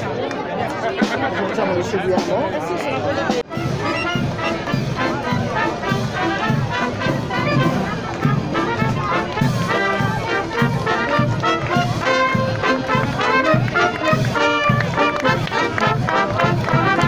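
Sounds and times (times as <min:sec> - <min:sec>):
brass band playing a march: 0:03.2 - 0:17.0.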